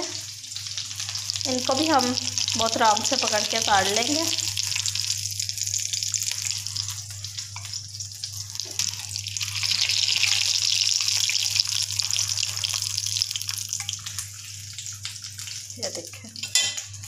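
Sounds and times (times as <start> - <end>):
hot oil sizzling and crackling: 0.0 - 17.0.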